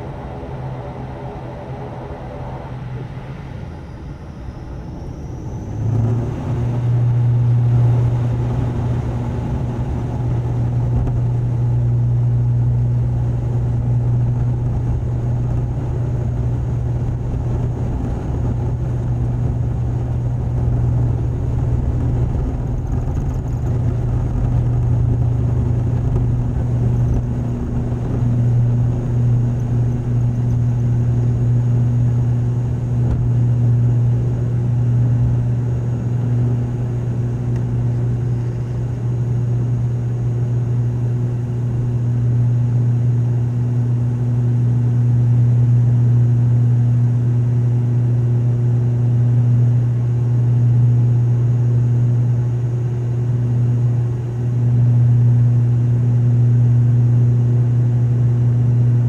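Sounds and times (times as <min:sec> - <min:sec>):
turboprop engines whining and droning: 0:00.0 - 0:59.0.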